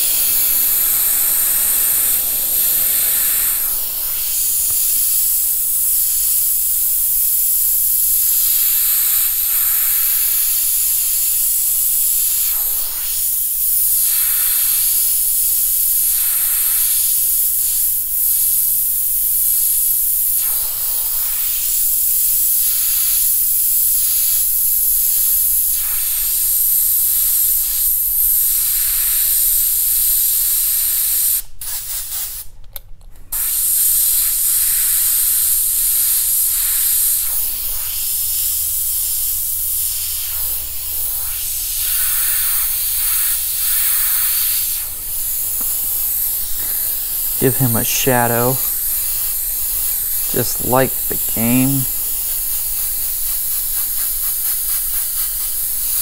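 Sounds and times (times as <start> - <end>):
airbrush hissing: 0.0 - 32.5, 33.4 - 56.0.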